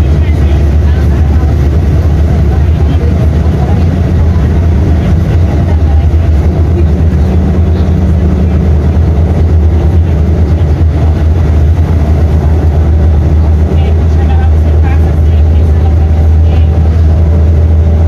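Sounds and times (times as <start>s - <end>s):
bus diesel engine droning: 0.0s - 18.0s.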